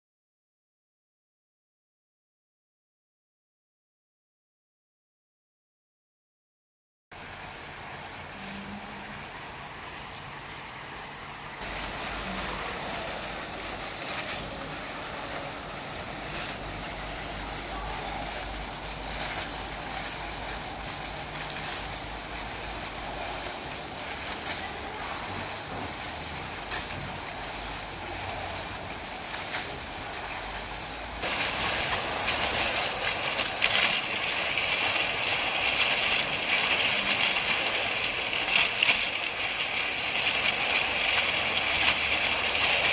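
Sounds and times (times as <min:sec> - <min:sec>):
fountain water splashing on pebbles: 0:07.1 - 0:42.9.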